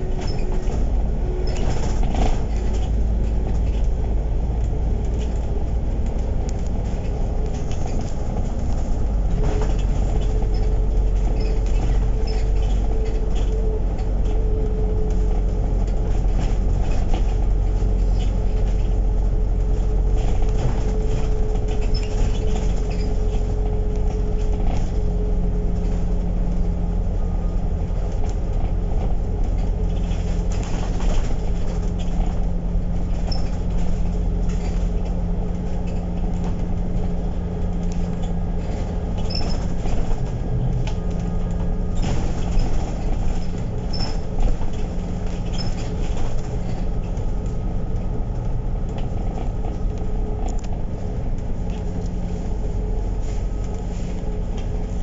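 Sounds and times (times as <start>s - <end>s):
bus engine and road rumble: 0.0s - 55.0s
engine whine: 0.0s - 55.0s.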